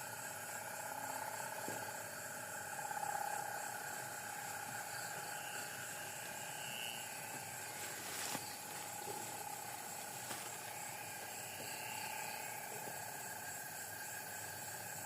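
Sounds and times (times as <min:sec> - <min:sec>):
droning whir: 0:00.0 - 0:15.0.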